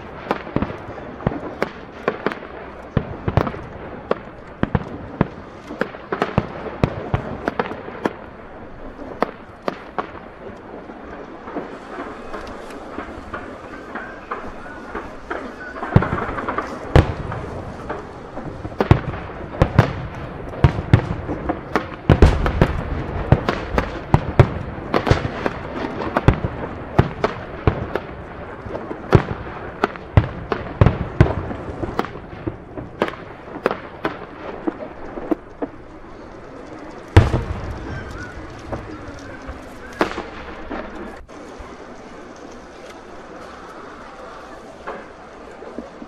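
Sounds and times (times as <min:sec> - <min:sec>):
firework shells bursting: 0:00.0 - 0:46.0.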